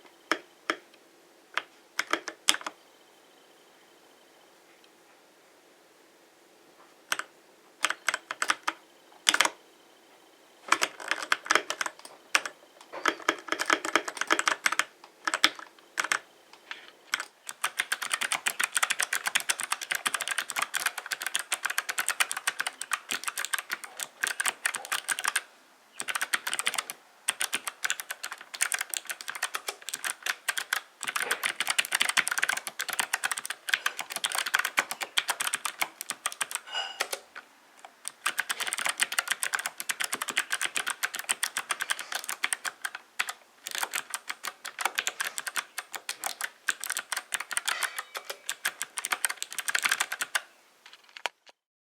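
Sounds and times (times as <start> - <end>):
typing on mechanical keyboard: 2.0 - 2.8, 7.1 - 9.6, 10.7 - 16.2, 17.1 - 37.2, 37.8 - 51.3.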